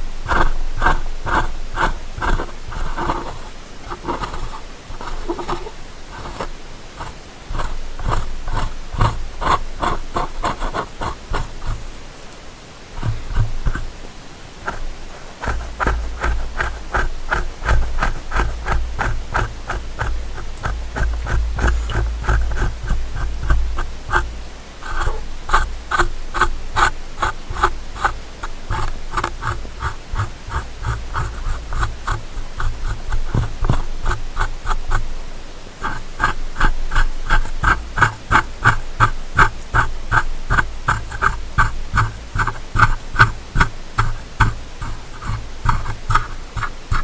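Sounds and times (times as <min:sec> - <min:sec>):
ear pick scratching inside microphone: 0:00.0 - 0:12.0, 0:12.8 - 0:35.2, 0:35.8 - 0:47.0.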